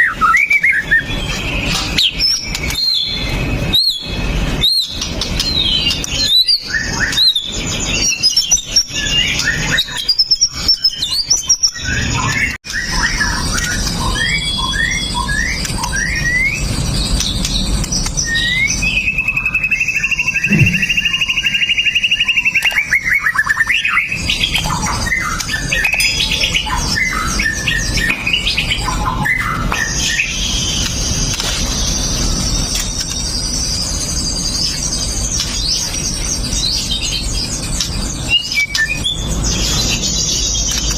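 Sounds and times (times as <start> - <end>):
bird singing whistled notes and trills: 0.0 - 40.9.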